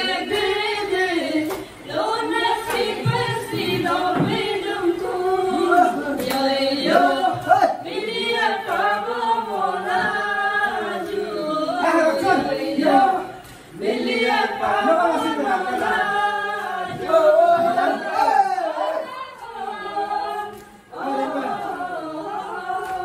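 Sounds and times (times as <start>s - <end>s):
group singing unaccompanied: 0.0s - 23.0s.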